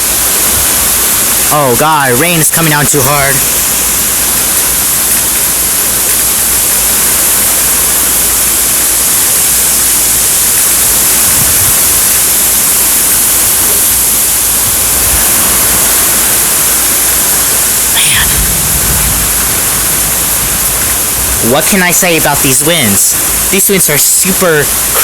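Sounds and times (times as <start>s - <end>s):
strong wind: 0.0s - 1.9s, 3.4s - 23.5s
heavy rain pouring: 0.0s - 25.0s.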